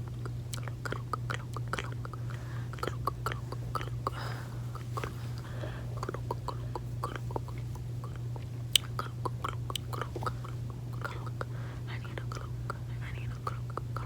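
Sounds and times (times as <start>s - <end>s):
gum chewing mouth sounds: 0.0s - 14.0s
low electrical hum: 0.0s - 14.0s.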